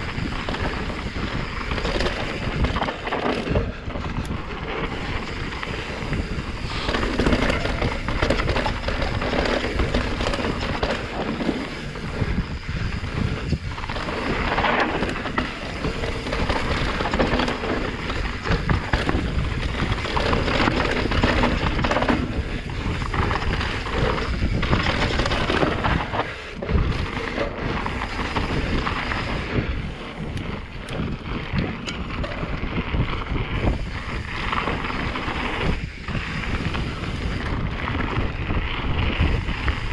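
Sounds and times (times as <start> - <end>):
bike knocks and rattles: 0.0 - 39.9
tyres on dirt and rock: 0.0 - 39.9
wind buffeting microphone: 0.0 - 39.9.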